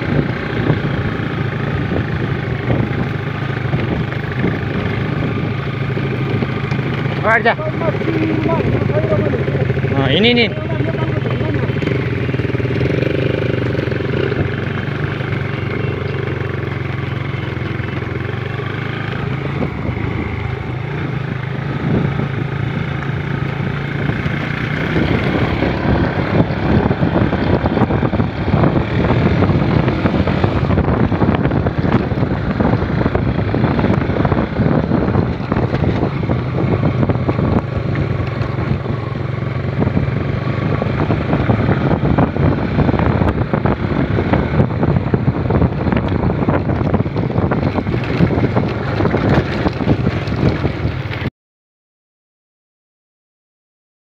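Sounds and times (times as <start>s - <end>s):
motorcycle engine running: 0.0s - 51.3s
motorcycle rattling over stones: 0.0s - 51.3s
wind buffeting microphone: 0.0s - 51.3s.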